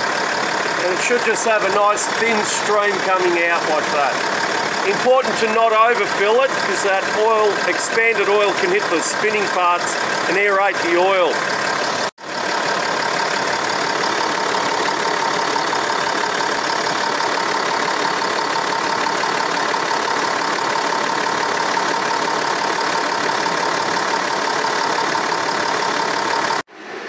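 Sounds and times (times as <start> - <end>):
diesel engine idling: 0.0 - 26.7.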